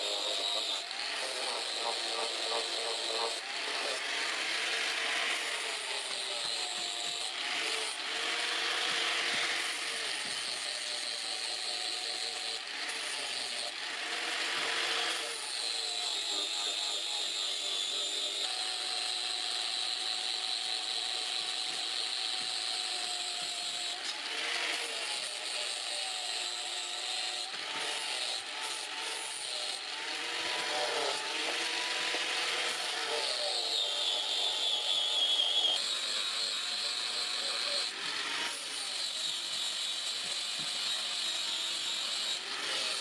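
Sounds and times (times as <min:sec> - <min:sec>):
angle grinder grinding steel: 0:00.0 - 0:43.0.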